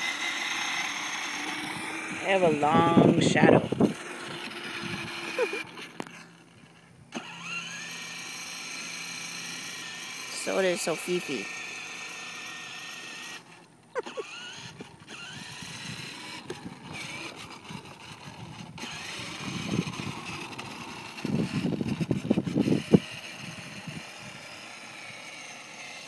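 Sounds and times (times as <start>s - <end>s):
plastic wheels rumbling on asphalt: 0.0s - 8.6s, 9.2s - 26.0s
electric motor whine: 0.0s - 26.0s.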